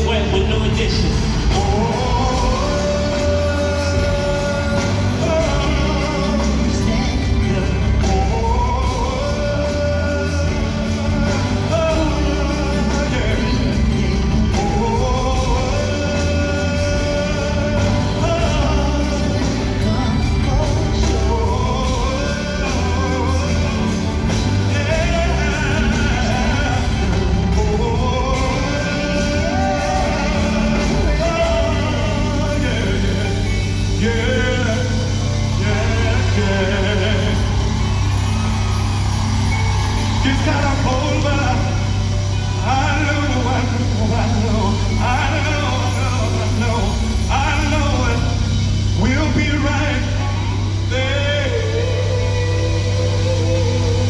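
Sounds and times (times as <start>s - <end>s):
bass: 0.0s - 54.0s
keyboard: 0.0s - 54.0s
person singing: 0.0s - 54.0s.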